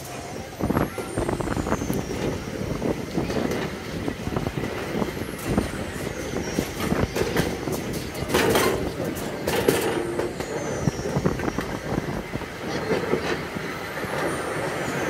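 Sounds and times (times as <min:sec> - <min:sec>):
miniature train rumbling on track: 0:00.0 - 0:15.0
wheels and couplings knocking: 0:01.8 - 0:15.0.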